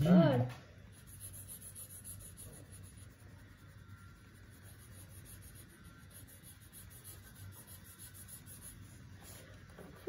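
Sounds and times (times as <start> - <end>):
low steady hum: 0.0 - 10.0
crayon scratching on paper: 0.9 - 10.0.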